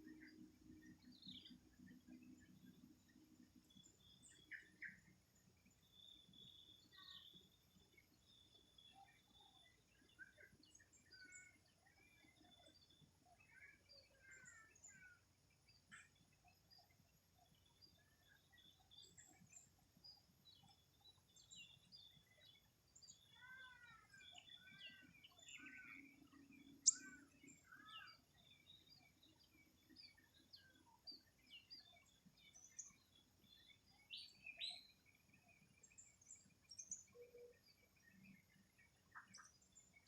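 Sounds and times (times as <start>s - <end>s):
arching whistled bird notes: 0.0s - 40.0s.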